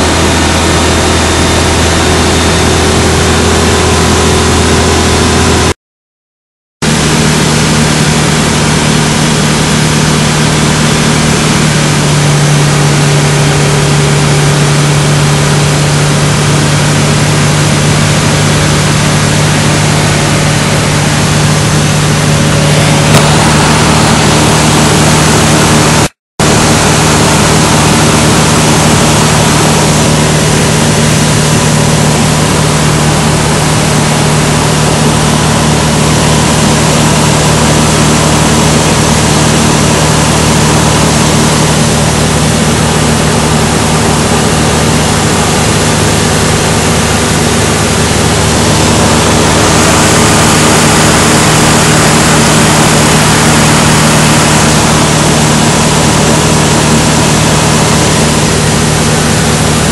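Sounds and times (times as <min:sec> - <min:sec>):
propeller engine drone: 0:00.0 - 0:05.8, 0:06.8 - 0:59.9
rushing air noise: 0:06.8 - 0:59.9.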